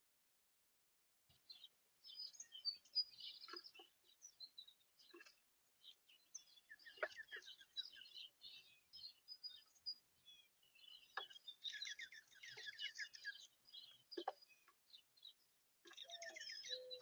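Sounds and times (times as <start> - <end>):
small birds chirping: 1.3 - 17.0.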